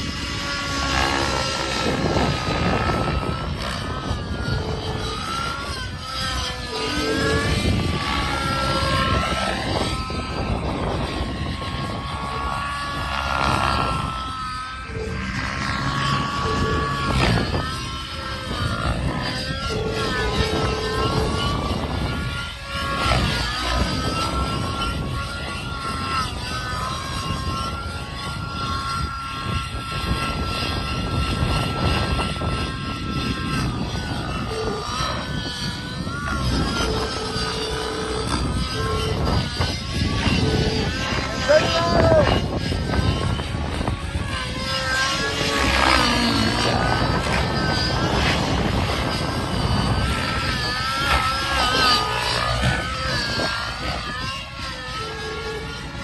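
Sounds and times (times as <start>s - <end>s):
model helicopter engine and rotor whine: 0.0s - 56.0s.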